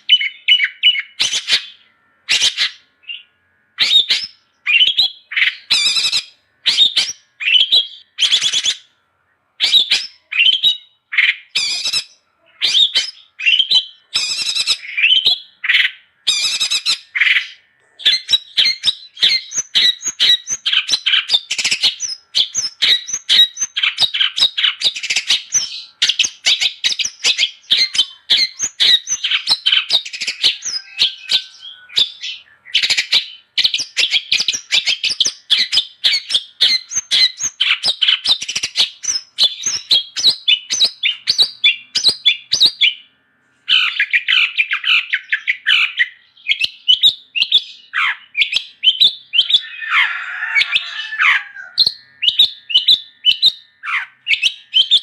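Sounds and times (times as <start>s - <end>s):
shrike singing: 0.0s - 55.0s.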